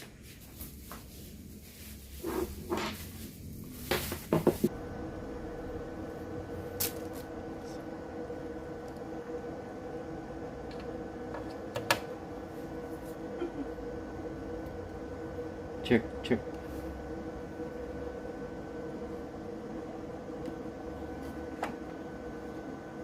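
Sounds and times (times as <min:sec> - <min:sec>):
electrical hum with held tones: 0:00.0 - 0:23.0.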